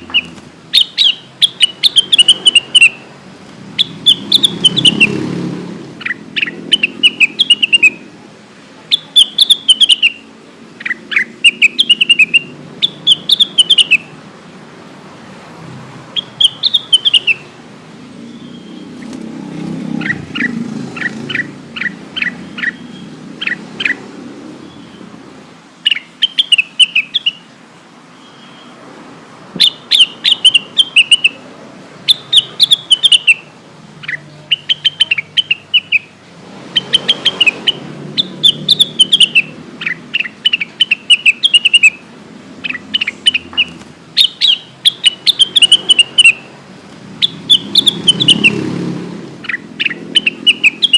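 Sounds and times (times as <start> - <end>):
bird singing sharp chirps: 0.0 - 3.1, 3.7 - 8.1, 8.9 - 14.2, 16.1 - 17.5, 18.2 - 25.1, 25.8 - 27.5, 28.1 - 28.8, 29.6 - 31.4, 32.0 - 36.1, 36.7 - 50.9.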